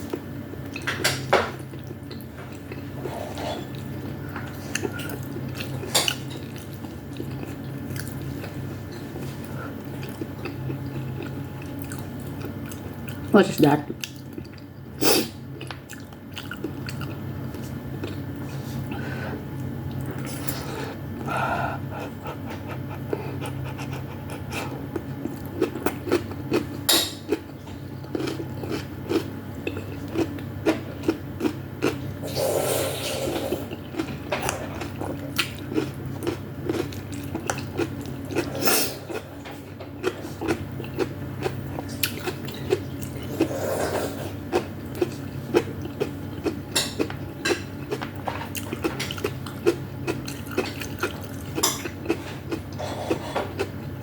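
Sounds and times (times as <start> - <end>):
steady low hum: 0.0 - 54.0
person chewing wetly: 3.7 - 8.6, 9.2 - 13.3, 13.9 - 14.8, 15.5 - 19.0, 19.6 - 32.3, 33.4 - 53.9.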